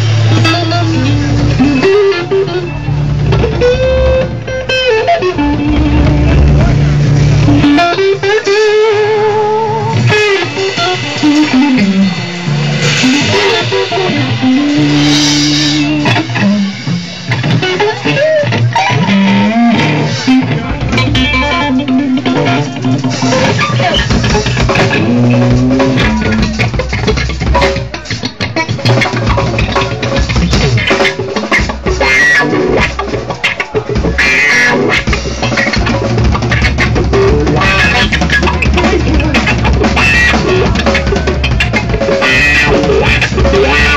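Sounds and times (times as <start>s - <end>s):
drums: 0.0s - 43.9s
electric guitar blues-rock: 0.0s - 43.9s.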